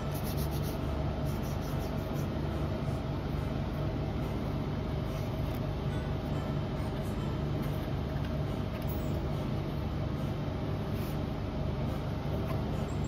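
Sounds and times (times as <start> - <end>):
faint constant tone: 0.0 - 13.0
low machine hum: 0.0 - 13.0.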